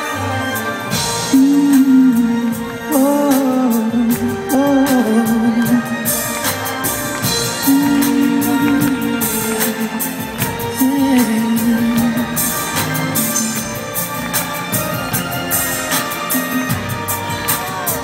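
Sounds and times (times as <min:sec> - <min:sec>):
drum kit: 0:00.0 - 0:18.0
hand drum percussion: 0:00.9 - 0:18.0.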